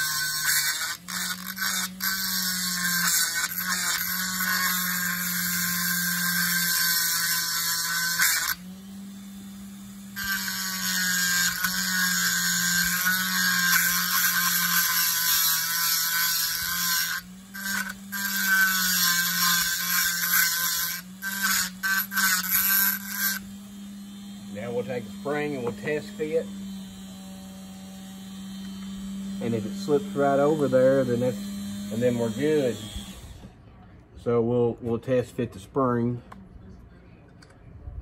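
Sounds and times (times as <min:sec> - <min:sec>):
burr grinding metal nut: 0:00.0 - 0:33.5
rotary tool motor hum: 0:00.0 - 0:33.5.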